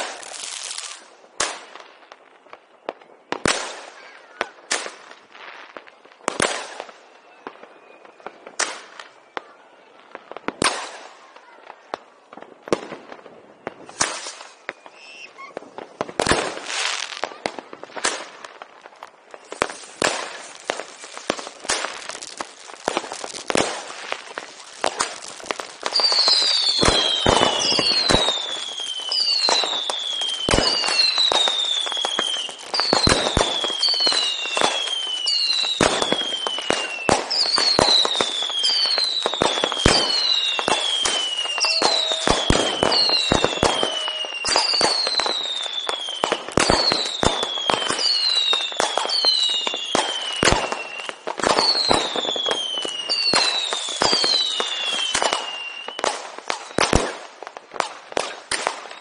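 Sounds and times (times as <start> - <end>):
firecracker bangs and crackling: 0.0 - 59.0
whistling fireworks: 0.0 - 59.0.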